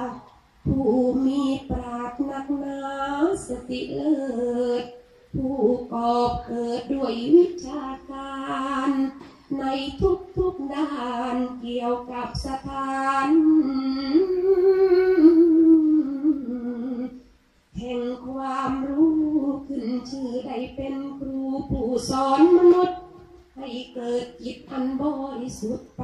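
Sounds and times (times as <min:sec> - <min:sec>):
woman chanting a sung melody: 0:00.0 - 0:26.0.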